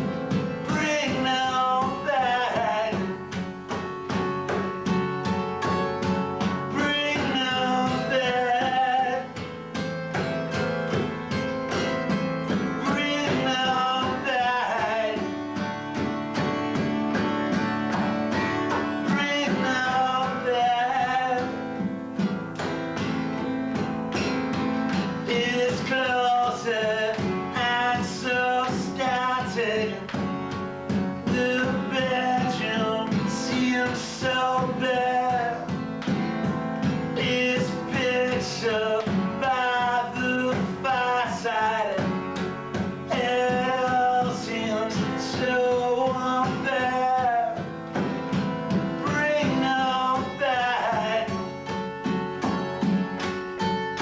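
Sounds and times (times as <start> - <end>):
person singing: 0.0 - 3.4, 6.3 - 9.5, 11.7 - 21.9, 25.0 - 36.2, 36.8 - 53.0
guitar strummed: 0.0 - 54.0.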